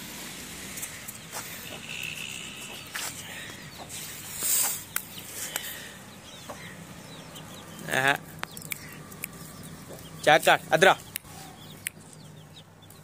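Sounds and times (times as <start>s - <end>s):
chickens clucking: 0.7s - 13.0s.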